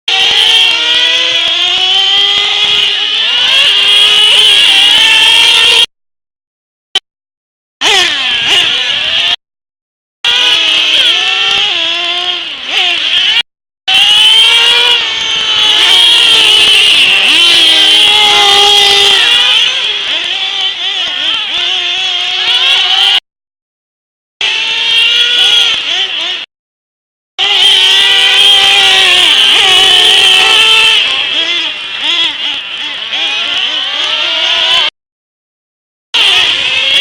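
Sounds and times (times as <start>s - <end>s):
remote control car motors: 0.1s - 5.9s, 7.8s - 9.4s, 10.3s - 23.2s, 24.4s - 26.5s, 27.4s - 34.9s, 36.2s - 37.0s.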